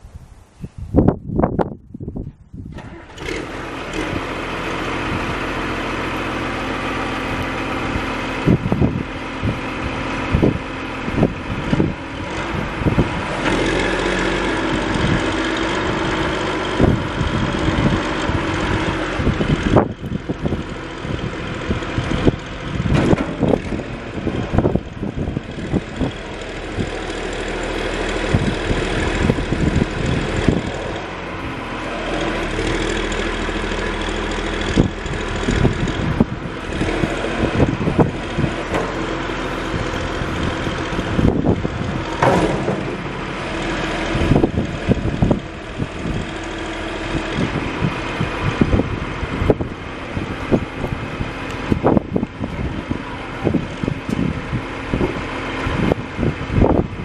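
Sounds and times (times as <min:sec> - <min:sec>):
diesel engine running: 0:02.4 - 0:57.0.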